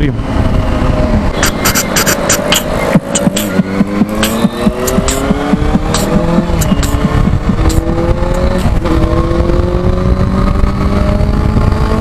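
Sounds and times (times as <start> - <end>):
motorcycle engine accelerating: 0.0 - 12.0
wind rush on microphone: 0.0 - 12.0.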